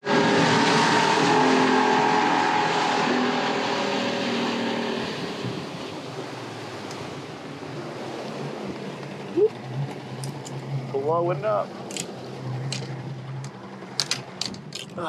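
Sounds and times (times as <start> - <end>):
outboard motor running: 0.0 - 15.0
water rushing along hull: 0.0 - 15.0
wind: 0.0 - 15.0.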